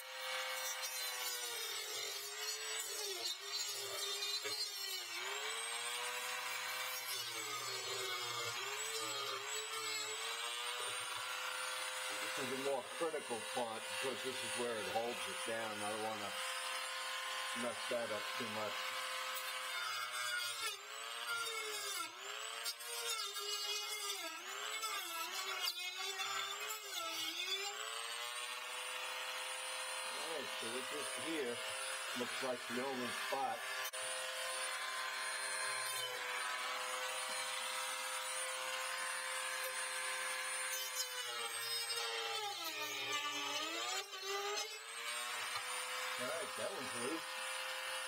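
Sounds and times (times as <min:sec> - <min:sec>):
rotary tool cutting plastic: 0:00.0 - 0:48.0.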